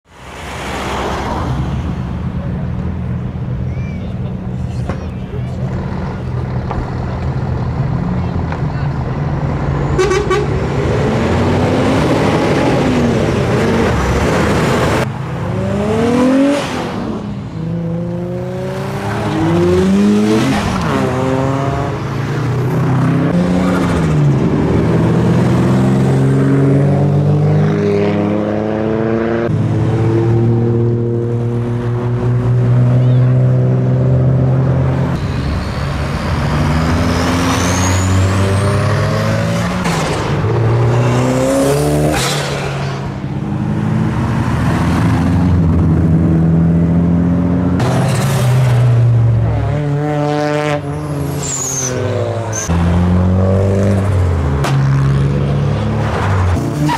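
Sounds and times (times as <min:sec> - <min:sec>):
cars revving past: 0:00.1 - 0:03.5, 0:05.4 - 0:56.9.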